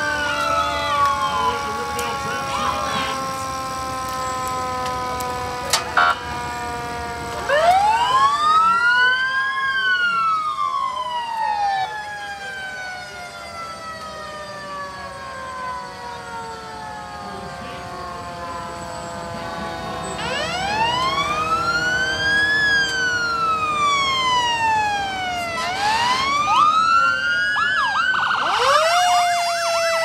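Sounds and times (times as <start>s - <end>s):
siren wail: 0.0s - 30.0s
sirens sliding down in pitch: 0.0s - 30.0s.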